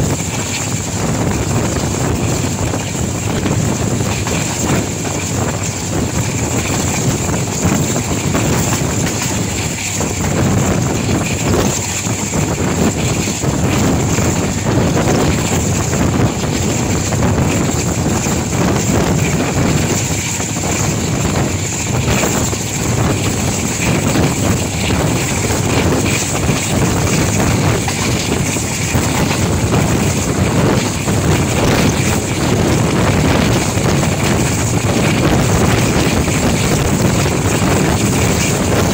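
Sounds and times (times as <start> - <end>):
diesel locomotive engine rumbling: 0.0 - 38.9
wind buffeting microphone: 0.0 - 38.9.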